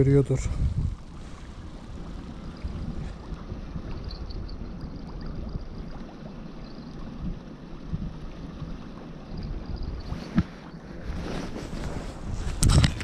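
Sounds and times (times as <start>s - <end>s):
surf washing on beach: 0.0s - 13.0s
wind rumbling on microphone: 0.0s - 13.0s.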